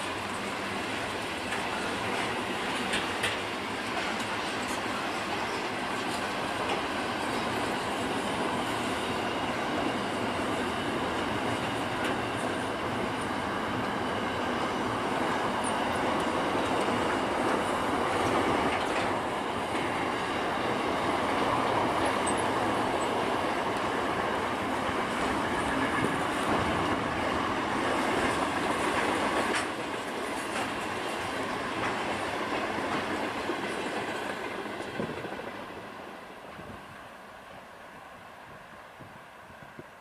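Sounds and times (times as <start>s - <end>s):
diesel locomotives working: 0.0s - 40.0s.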